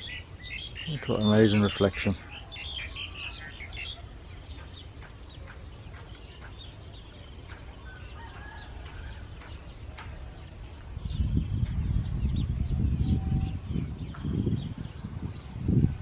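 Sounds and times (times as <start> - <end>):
small bird calls: 0.0 - 16.0.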